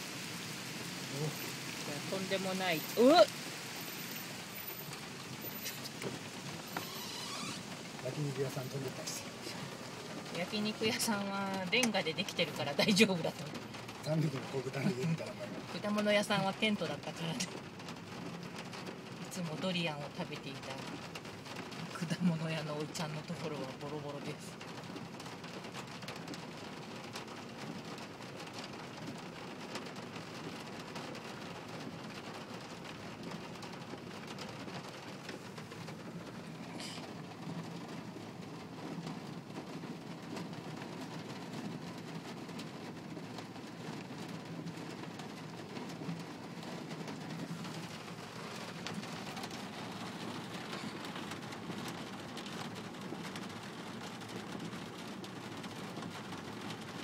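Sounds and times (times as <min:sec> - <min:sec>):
rain on a car: 0:00.0 - 0:57.0.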